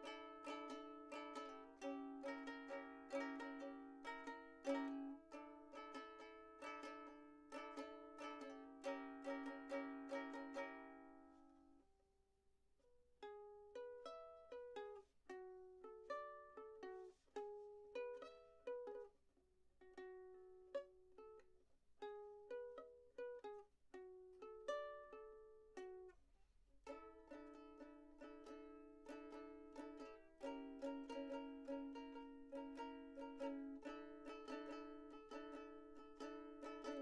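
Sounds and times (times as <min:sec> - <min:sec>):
plucked string instrument music: 0:00.0 - 0:11.8, 0:13.2 - 0:19.2, 0:19.8 - 0:26.2, 0:26.8 - 0:37.0.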